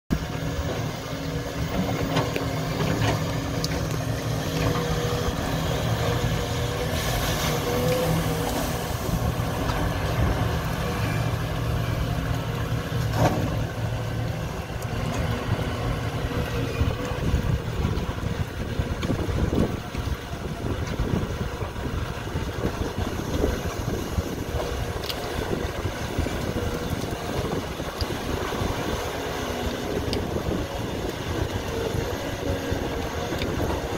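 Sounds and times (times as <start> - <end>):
heavy diesel engine running: 0.1 - 33.9.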